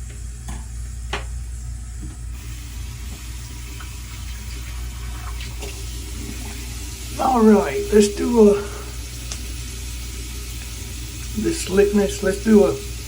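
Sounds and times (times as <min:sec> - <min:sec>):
tap water running into sink: 0:02.4 - 0:13.0.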